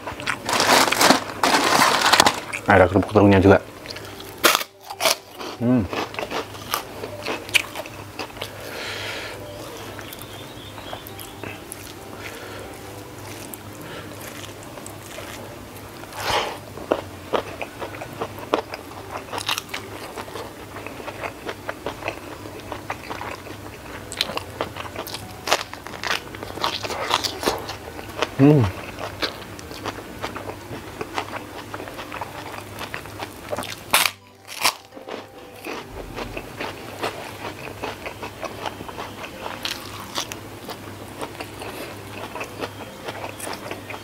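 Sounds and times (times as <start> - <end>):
crisp cracker crunching: 0.0 - 3.1, 3.9 - 8.5, 9.6 - 44.0
wet chewing: 3.8 - 44.0.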